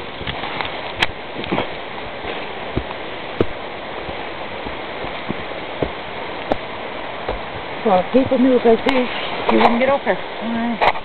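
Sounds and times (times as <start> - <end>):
footsteps on a trail: 0.0 - 10.0
waterfall and stream rushing: 0.0 - 11.0.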